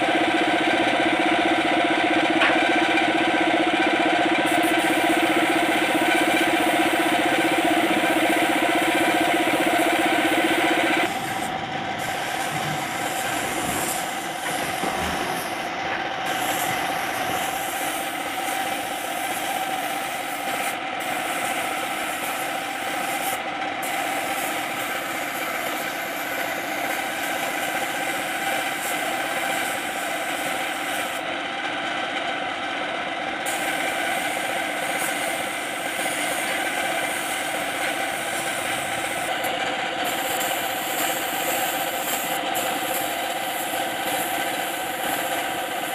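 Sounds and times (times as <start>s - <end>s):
power sander on steel: 3.9s - 31.3s, 33.4s - 45.9s.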